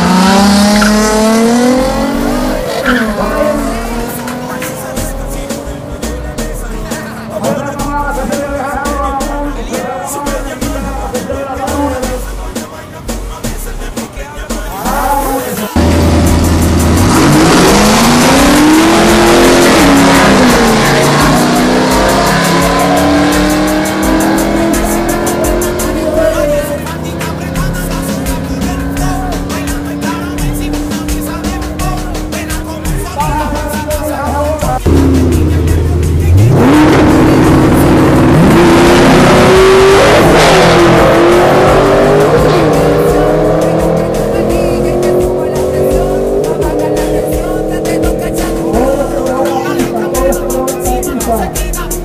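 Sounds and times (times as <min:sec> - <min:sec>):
racing engine accelerating: 0:00.0 - 0:08.4, 0:14.7 - 0:52.0.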